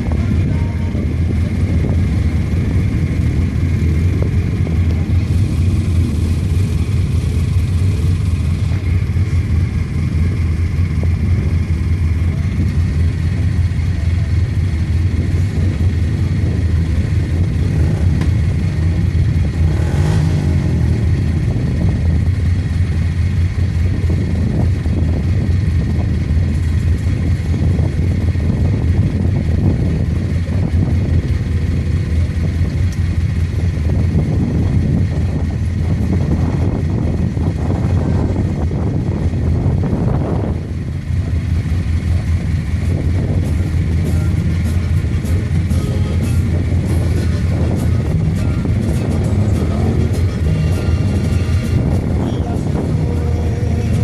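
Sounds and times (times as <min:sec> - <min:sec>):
atv engines rumbling: 0:00.0 - 0:54.0.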